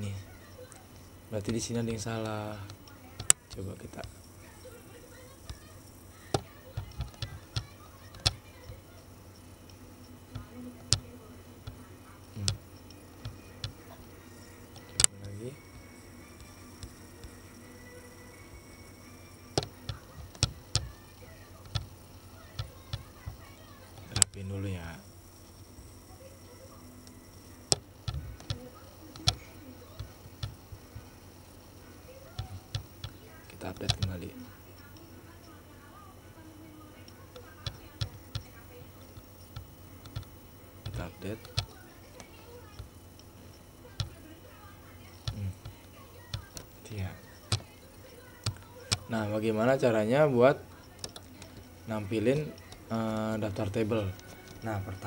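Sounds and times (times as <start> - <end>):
computer mouse clicking: 0.0 - 24.5, 25.3 - 35.6, 37.0 - 49.9, 50.6 - 55.0.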